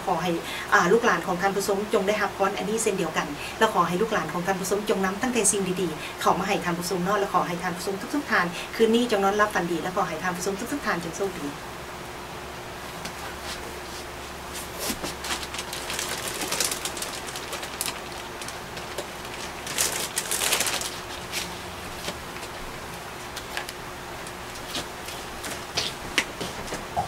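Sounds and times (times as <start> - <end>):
steady faint hum: 0.0 - 27.0.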